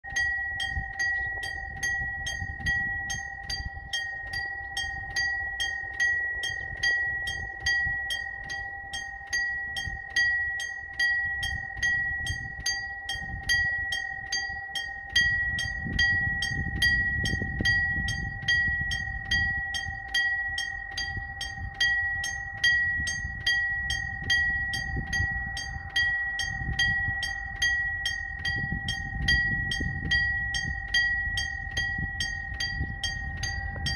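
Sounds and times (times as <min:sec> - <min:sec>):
level crossing bell ringing: 0:00.1 - 0:33.9
low engine rumble: 0:00.1 - 0:33.9.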